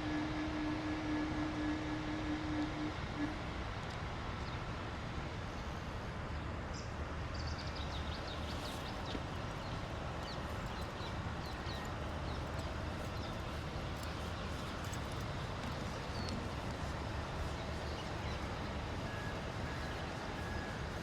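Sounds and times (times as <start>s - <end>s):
city traffic rumble: 3.2s - 21.0s.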